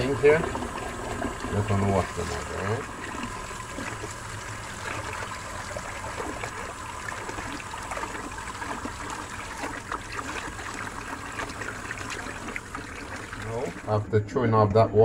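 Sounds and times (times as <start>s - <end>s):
water splashing in a bowl: 0.0s - 14.0s
water trickling: 0.0s - 15.0s.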